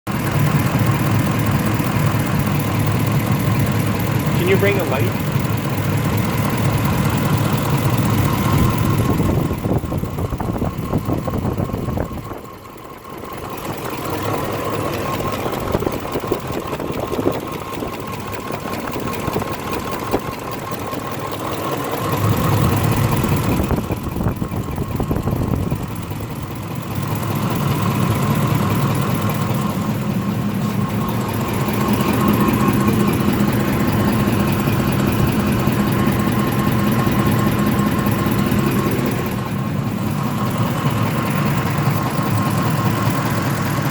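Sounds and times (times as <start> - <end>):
truck engine idling: 0.1 - 43.9.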